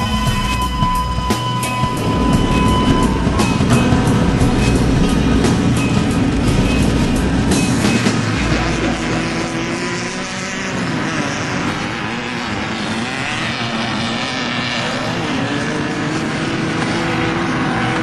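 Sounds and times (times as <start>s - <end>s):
race vehicle engine at speed: 0.0s - 18.0s.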